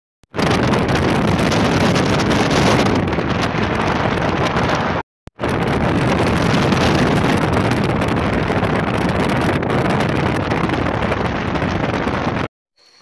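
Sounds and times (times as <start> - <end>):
wind buffeting microphone: 0.3 - 12.5.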